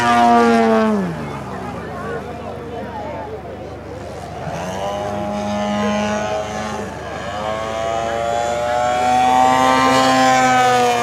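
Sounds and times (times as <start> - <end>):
model plane engine and propeller: 0.0 - 11.0.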